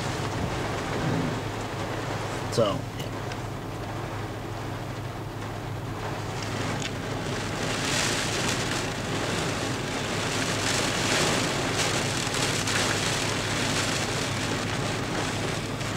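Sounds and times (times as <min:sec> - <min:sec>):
wind-driven heavy rain: 0:00.0 - 0:15.9.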